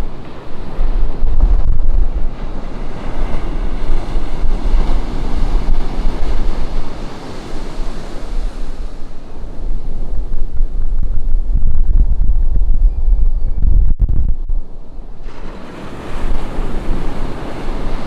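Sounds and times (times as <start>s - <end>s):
ocean surf breaking: 0.0s - 11.8s, 14.7s - 18.0s
wind buffeting microphone: 0.0s - 18.0s.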